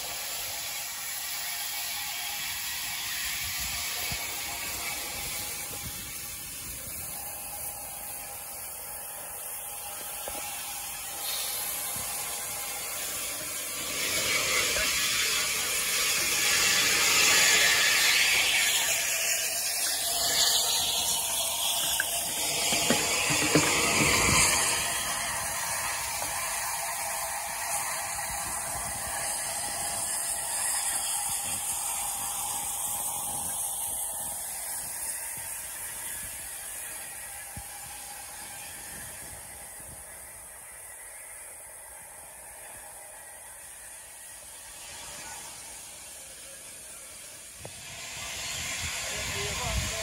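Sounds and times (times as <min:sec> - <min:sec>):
steam locomotive wheels clattering: 0:00.0 - 0:50.0.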